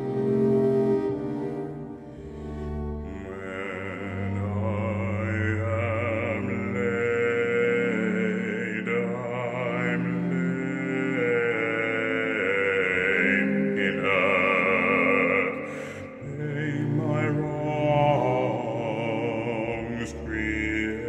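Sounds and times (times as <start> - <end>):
bowed cello and violin: 0.0 - 21.0
baritone operatic singing: 2.9 - 21.0.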